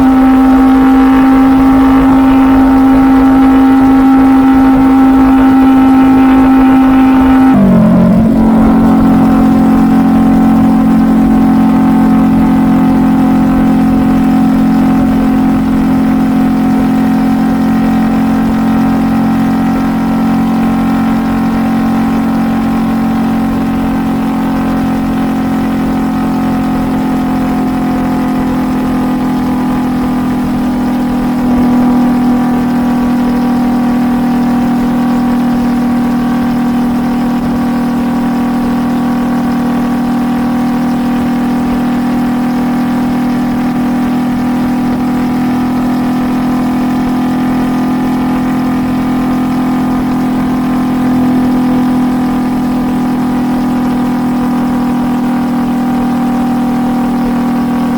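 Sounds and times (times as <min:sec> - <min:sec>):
motorcycle engine cruising: 0:00.0 - 0:57.9.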